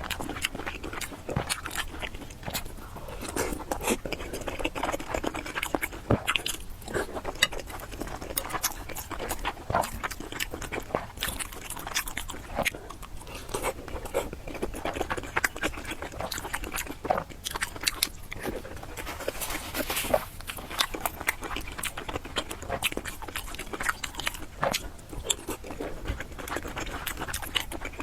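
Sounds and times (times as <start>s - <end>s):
biting and chewing food: 0.0s - 28.0s.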